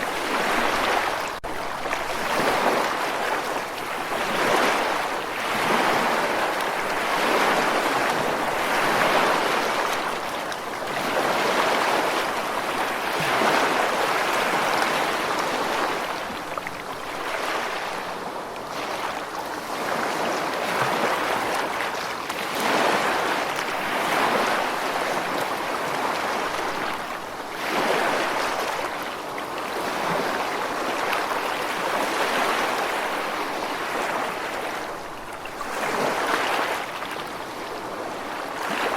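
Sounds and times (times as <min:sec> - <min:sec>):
ocean waves washing in and out: 0:00.0 - 0:38.9.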